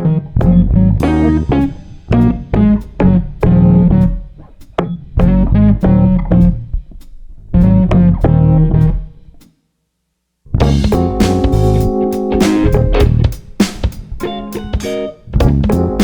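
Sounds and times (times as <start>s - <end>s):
guitar and bass music: 0.0s - 9.2s, 10.5s - 16.0s.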